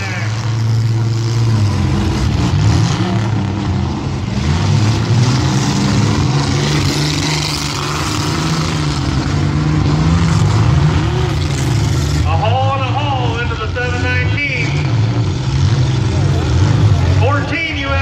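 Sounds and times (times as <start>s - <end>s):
car engines revving: 0.0s - 18.0s
crowd noise: 0.0s - 18.0s.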